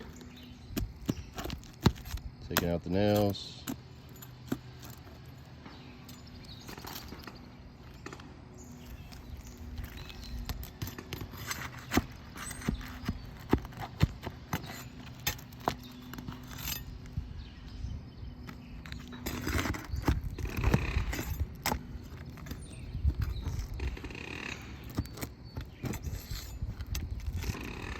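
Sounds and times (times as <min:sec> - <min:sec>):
hand tool knocking and scraping: 0:00.0 - 0:08.2, 0:08.8 - 0:17.1, 0:18.5 - 0:27.9.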